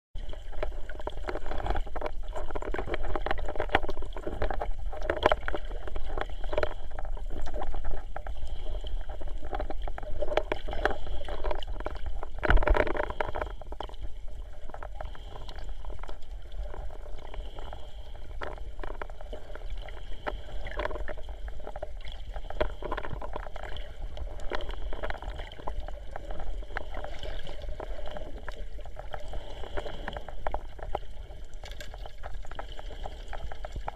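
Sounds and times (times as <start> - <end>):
muffled underwater water sloshing: 0.2 - 33.9.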